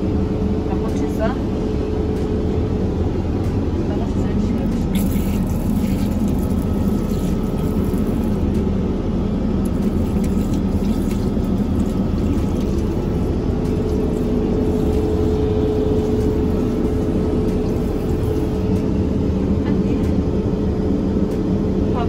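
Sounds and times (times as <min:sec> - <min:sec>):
airliner engine drone: 0:00.0 - 0:22.0
cabin hum: 0:00.0 - 0:22.0.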